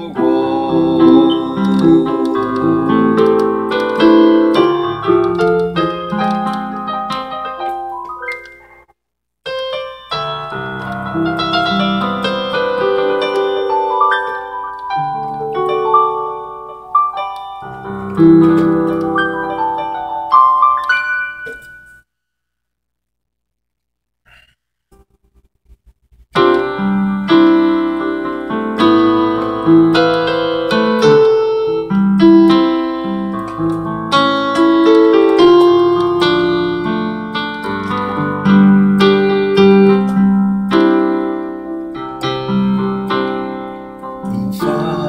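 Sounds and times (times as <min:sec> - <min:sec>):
piano playing chords and melody: 0:00.0 - 0:22.1, 0:26.3 - 0:45.0.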